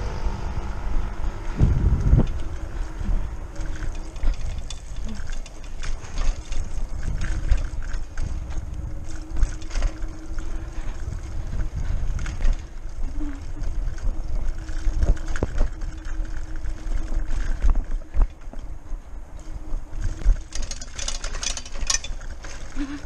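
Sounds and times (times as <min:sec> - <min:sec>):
steady hum: 0:00.0 - 0:23.0
wind rumbling on microphone: 0:00.0 - 0:23.0
bike rattling and knocking: 0:00.8 - 0:23.0.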